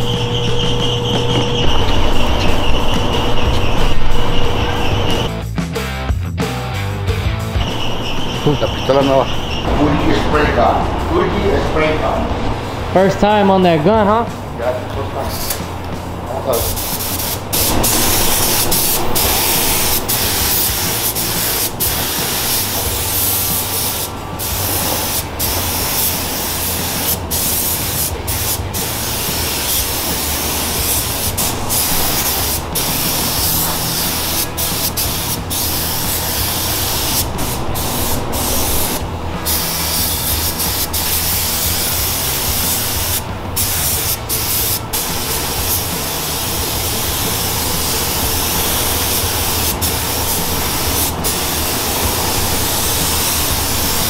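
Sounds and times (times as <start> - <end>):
spray gun hissing: 0.0 - 5.3, 15.2 - 54.0.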